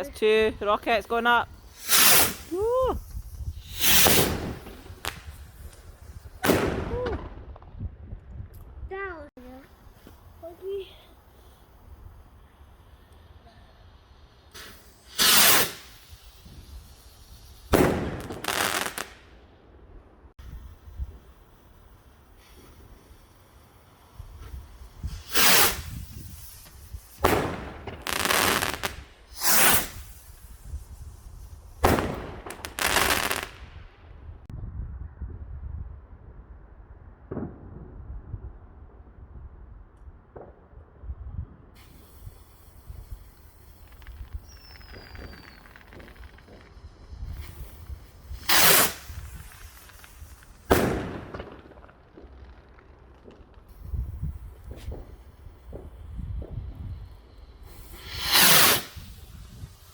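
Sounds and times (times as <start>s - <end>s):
fireworks hissing bursts and bangs: 0.0s - 7.6s, 9.4s - 19.4s, 20.3s - 34.0s, 41.8s - 59.9s.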